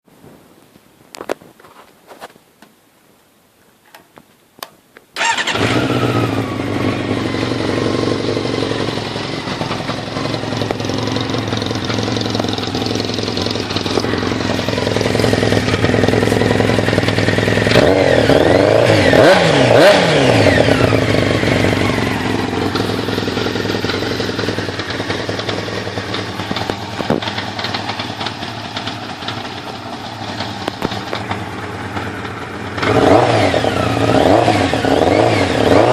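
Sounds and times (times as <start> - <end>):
motorcycle engine starting and idling: 3.9 - 35.9
motorcycle engine revving: 5.2 - 35.9.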